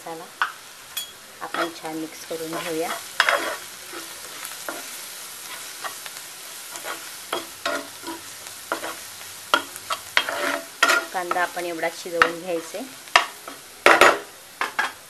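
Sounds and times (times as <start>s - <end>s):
onions sizzling in a pan: 0.0s - 15.0s
spatula scraping and knocking pan: 1.4s - 6.1s, 6.7s - 11.6s, 12.2s - 15.0s.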